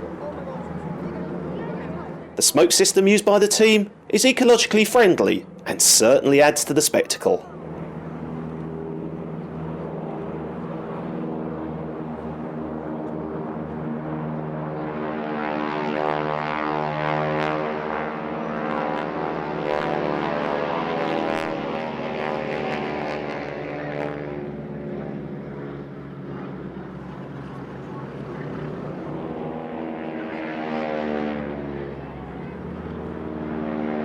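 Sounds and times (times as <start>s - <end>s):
biplane radial engines buzzing: 0.0s - 34.0s.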